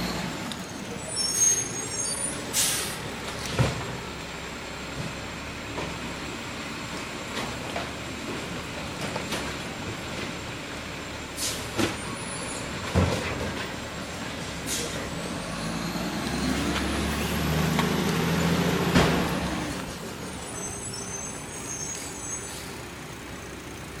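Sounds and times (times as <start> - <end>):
garbage truck engine running: 0.0 - 24.0
engine whine: 1.8 - 24.0.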